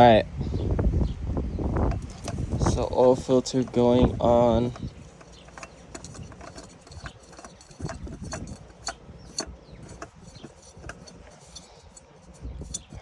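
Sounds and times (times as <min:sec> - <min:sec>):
oil filter clicking against mount: 0:01.8 - 0:13.0.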